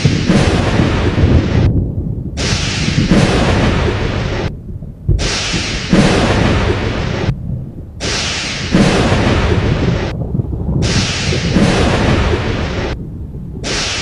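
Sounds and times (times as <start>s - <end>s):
thunder rumbling and crackling: 0.0s - 14.0s.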